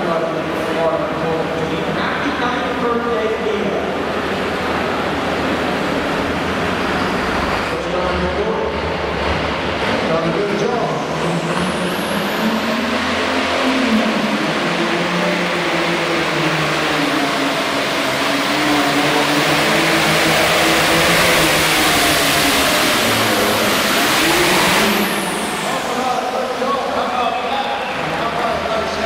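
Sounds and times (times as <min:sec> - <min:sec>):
tractor diesel engine under full load: 0:00.0 - 0:29.0.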